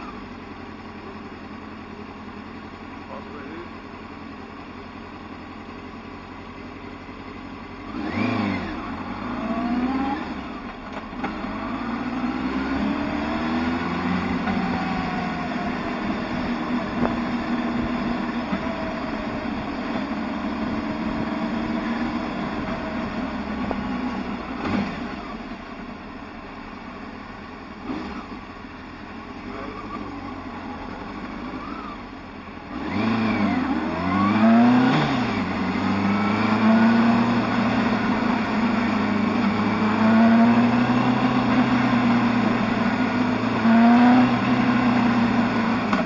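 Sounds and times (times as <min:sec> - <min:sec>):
motorcycle engine: 0:00.0 - 0:46.0.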